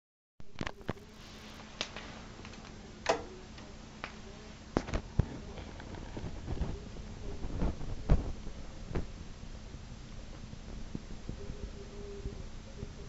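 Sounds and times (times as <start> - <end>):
faint steady hum: 0.4 - 13.0.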